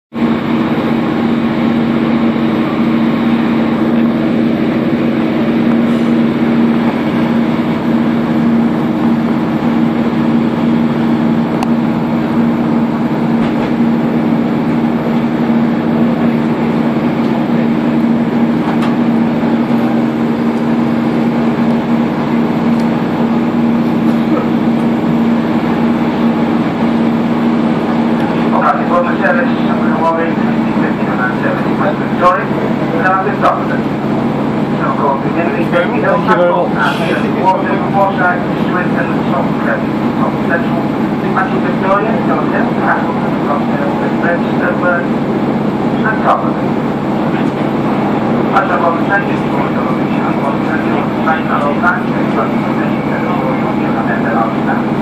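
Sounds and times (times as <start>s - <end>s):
train drone with held tones: 0.1s - 55.0s
train wheels rumbling on track: 0.1s - 55.0s.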